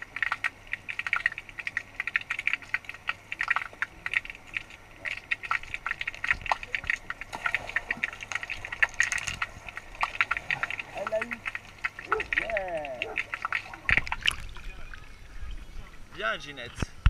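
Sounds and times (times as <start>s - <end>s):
underwater clicks and crackles: 0.0s - 17.0s.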